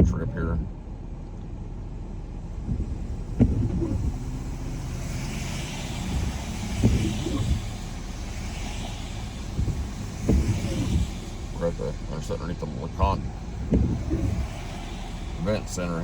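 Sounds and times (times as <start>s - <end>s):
road rumble and tyre hiss: 0.0s - 16.0s
short thumps: 2.5s - 16.0s.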